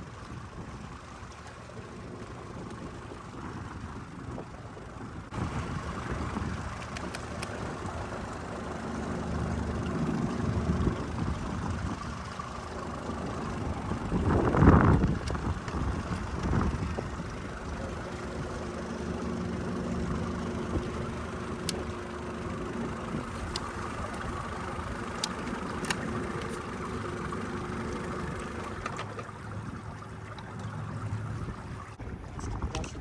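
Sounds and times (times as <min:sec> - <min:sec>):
outboard motor running: 0:00.0 - 0:33.0
water noise: 0:00.0 - 0:33.0
wind: 0:00.0 - 0:33.0.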